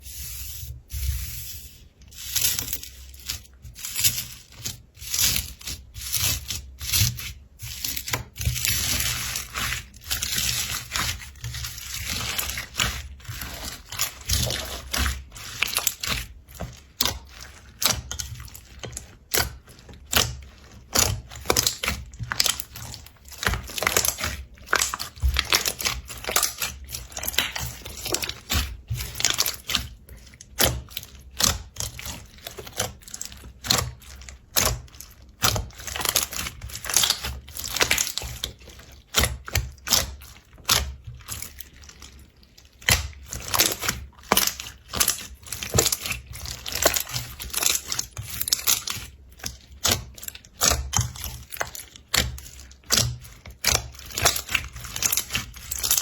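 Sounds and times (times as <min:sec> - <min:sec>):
slime squishing and crackling: 0:00.0 - 0:56.0.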